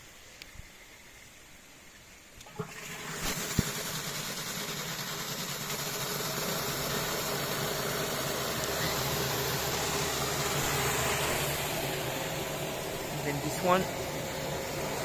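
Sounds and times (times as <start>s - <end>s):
rush of water and spray: 2.4s - 15.0s
turbine mechanical hum: 2.4s - 15.0s.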